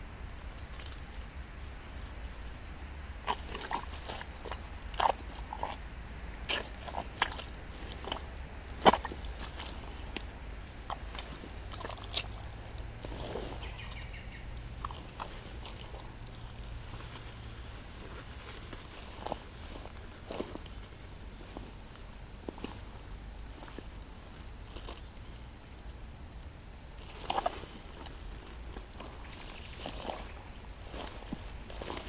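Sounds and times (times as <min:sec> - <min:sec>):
boots squelching in mud: 0:03.2 - 0:23.9, 0:27.0 - 0:32.0.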